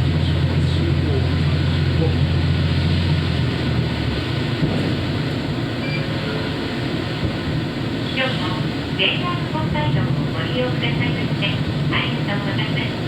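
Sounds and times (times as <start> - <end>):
railcar engine drone: 0.0 - 13.0
train rolling on rails: 0.0 - 13.0.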